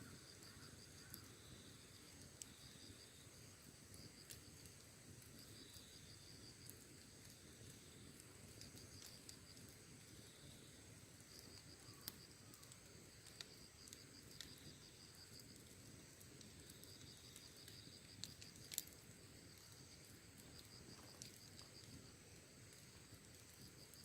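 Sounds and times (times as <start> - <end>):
insects chirring: 0.0 - 24.0
wood fire crackling: 0.0 - 24.0.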